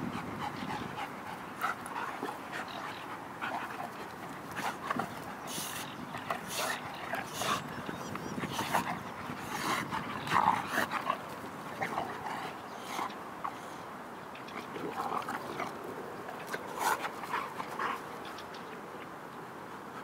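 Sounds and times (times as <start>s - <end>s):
dogs play-fighting vocalizing: 0.0s - 18.6s.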